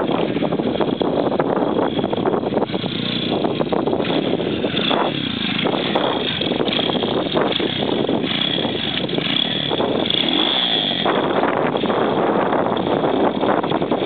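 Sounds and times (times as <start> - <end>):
small motorbike engine revving: 0.0 - 14.0.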